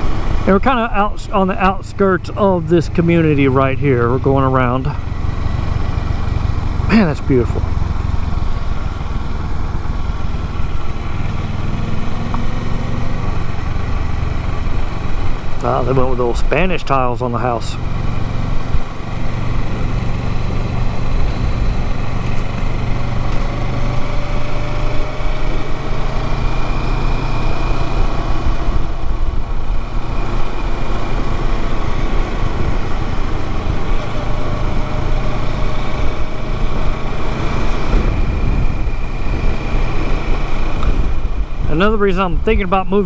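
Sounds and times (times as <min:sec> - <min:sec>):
motorcycle engine running: 0:00.0 - 0:43.0
steady rushing noise: 0:00.0 - 0:43.0.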